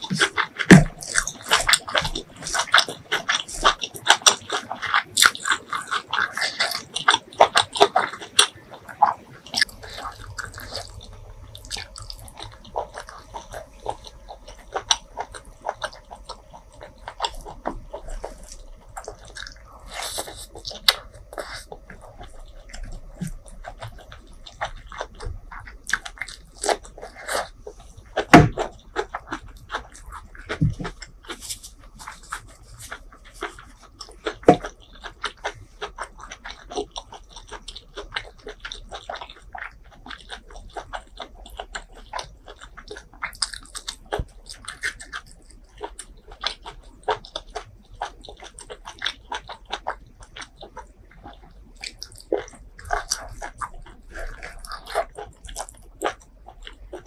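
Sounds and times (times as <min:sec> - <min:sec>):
crunchy bites: 0:00.0 - 0:57.0
wet chewing: 0:00.0 - 0:57.0.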